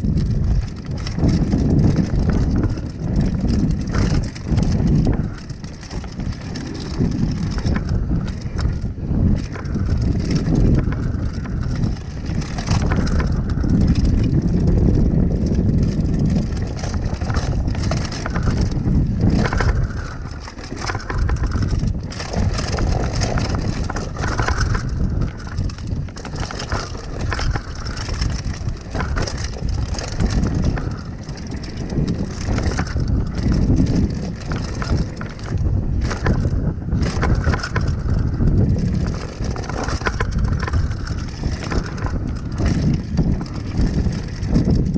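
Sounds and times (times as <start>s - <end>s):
bike clicks and rattles: 0.0s - 44.9s
bike tyres crunching on dirt: 0.0s - 44.9s
wind rumble on microphone: 0.0s - 44.9s.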